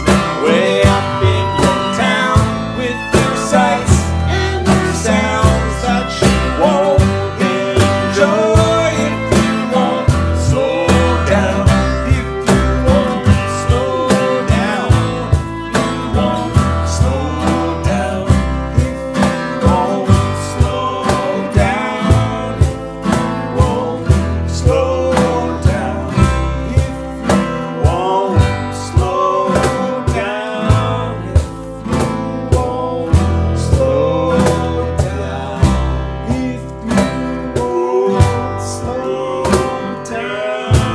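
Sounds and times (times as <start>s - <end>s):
fiddle: 0.0s - 40.9s
men singing: 0.0s - 40.9s
strummed acoustic guitar: 0.0s - 40.9s
upright bass plucked: 0.0s - 40.9s.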